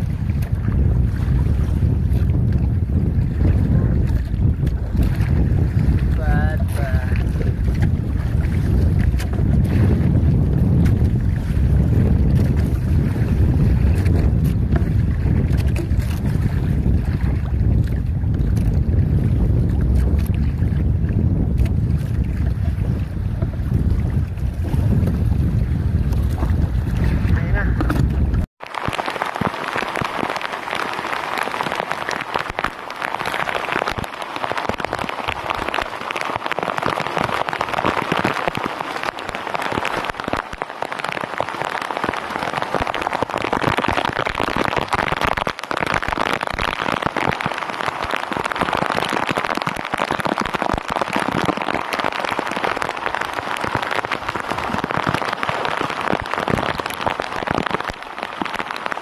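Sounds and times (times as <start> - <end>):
rain falling on sea and boat: 0.0 - 23.7, 26.3 - 59.0.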